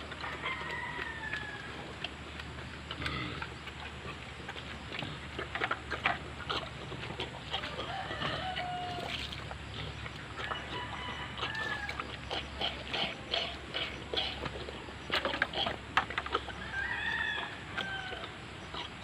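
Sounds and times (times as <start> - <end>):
pig chomping feed from metal bowl: 0.0 - 16.6
chickens clucking: 0.0 - 19.0.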